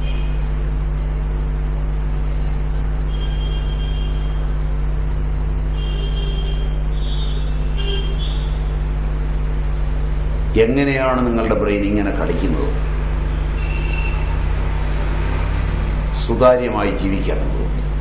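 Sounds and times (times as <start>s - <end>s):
electrical mains hum with hiss: 0.0s - 18.0s.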